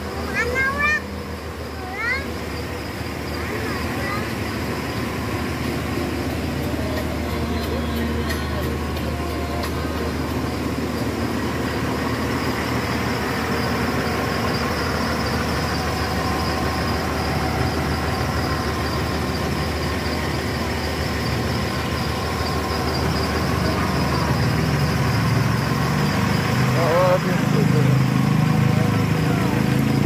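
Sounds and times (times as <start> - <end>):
excavator diesel engine running: 0.0 - 30.0
faint high whine: 0.2 - 26.0.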